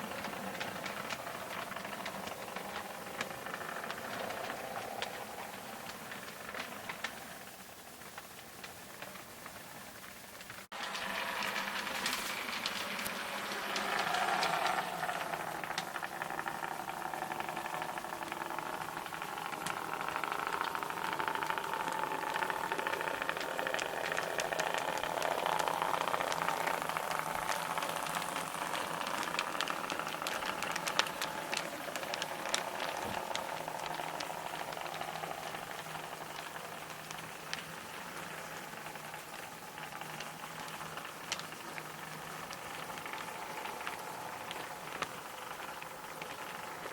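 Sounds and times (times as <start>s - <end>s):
model train motor whining: 0.0s - 46.9s
wheels clicking on rails: 0.0s - 46.9s.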